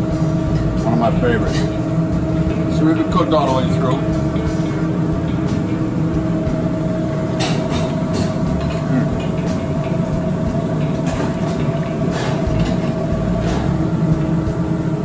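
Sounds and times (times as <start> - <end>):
held hum: 0.0 - 15.0
kitchen equipment drone: 0.0 - 15.0.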